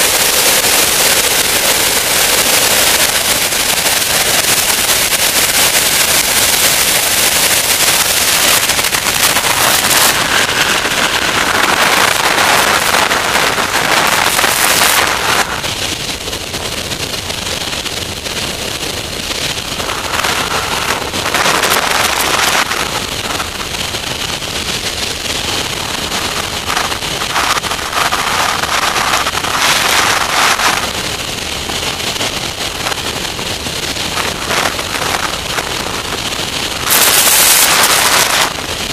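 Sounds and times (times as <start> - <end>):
airflow buffeting microphone: 0.0 - 38.9.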